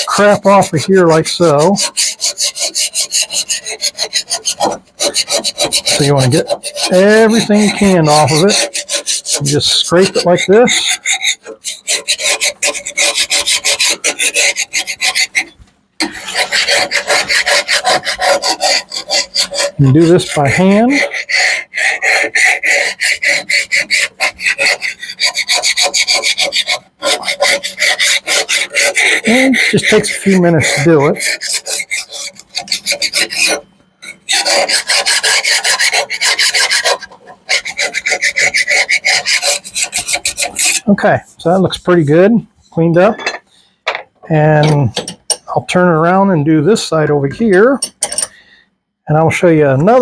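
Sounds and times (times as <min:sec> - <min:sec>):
scraping a steel mower blade: 0:00.0 - 0:48.4.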